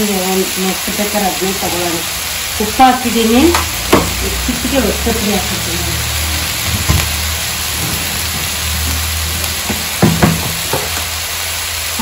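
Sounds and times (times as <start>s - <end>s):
pumpkin sizzling in hot oil: 0.0s - 12.0s.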